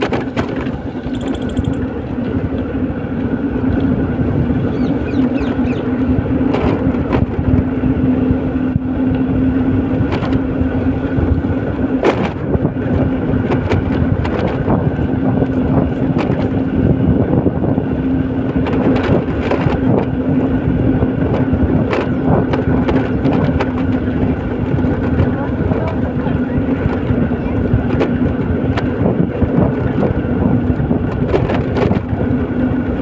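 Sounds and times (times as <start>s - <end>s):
vehicle engine and tyre noise: 0.0s - 33.0s.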